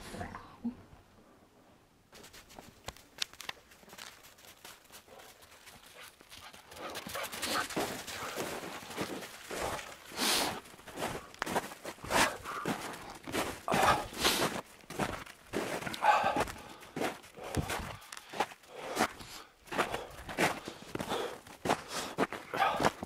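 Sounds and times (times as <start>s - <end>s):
footsteps crunching through snow: 2.1s - 23.0s.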